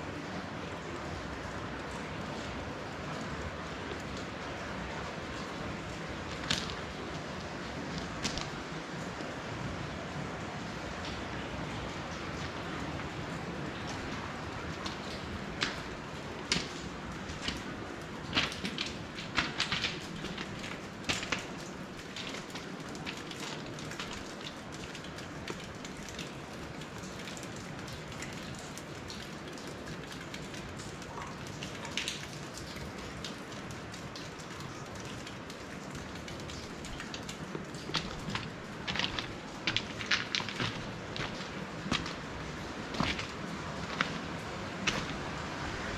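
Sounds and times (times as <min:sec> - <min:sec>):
running water hiss: 0:00.0 - 0:45.9
water dripping and tapping: 0:00.0 - 0:45.9.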